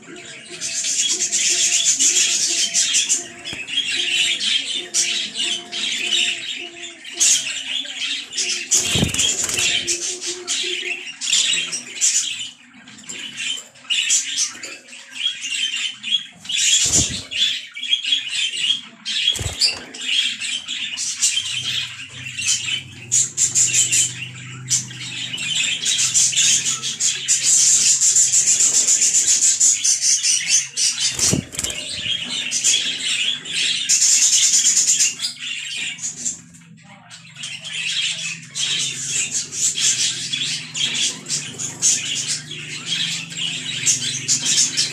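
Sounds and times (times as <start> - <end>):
budgerigars chattering and warbling: 0.0 - 44.9.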